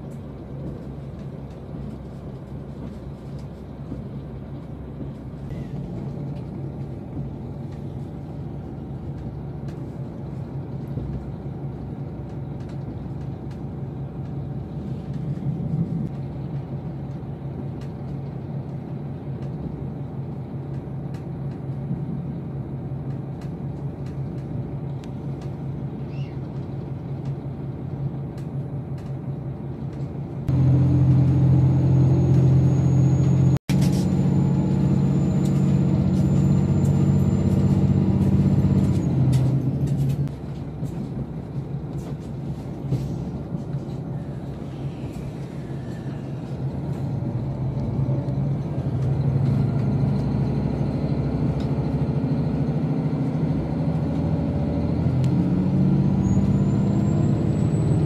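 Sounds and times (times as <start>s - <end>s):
diesel railcar engine humming: 0.0s - 58.0s.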